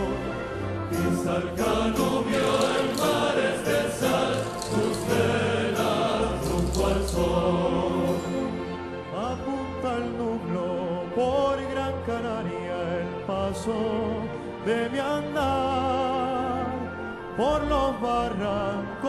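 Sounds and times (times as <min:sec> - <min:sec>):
male choir singing in harmony: 0:00.0 - 0:19.0.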